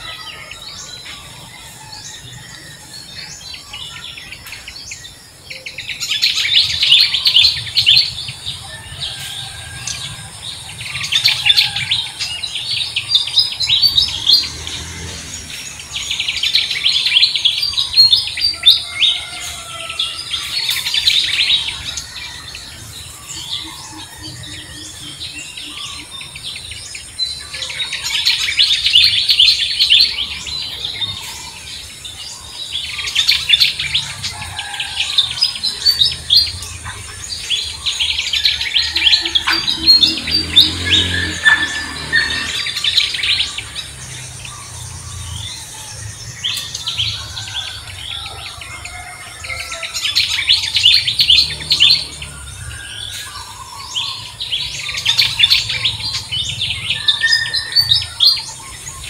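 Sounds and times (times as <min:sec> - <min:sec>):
birds chirping rapidly: 0:00.0 - 0:59.0.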